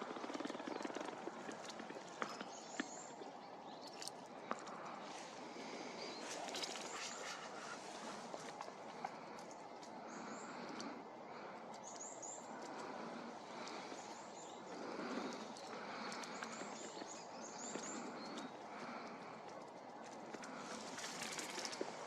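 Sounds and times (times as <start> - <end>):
outdoor background hiss: 0.0 - 22.0
small bird calling: 0.0 - 22.0.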